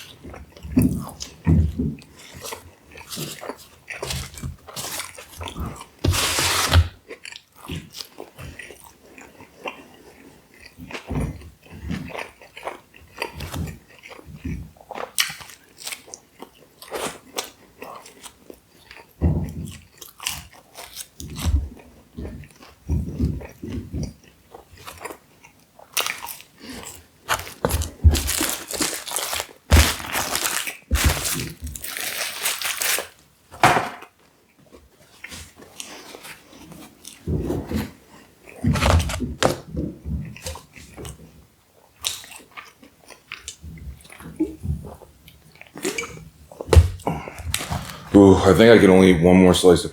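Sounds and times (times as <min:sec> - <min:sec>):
chewing and crunching pizza: 0:00.0 - 0:49.2.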